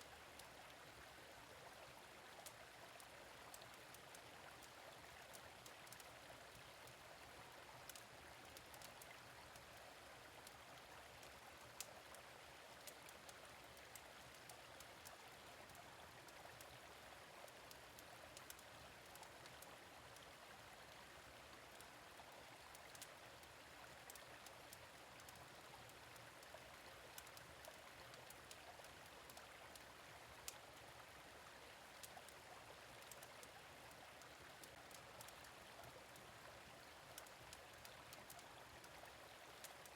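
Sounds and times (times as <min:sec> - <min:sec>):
gentle stream flowing: 0:00.0 - 0:39.9.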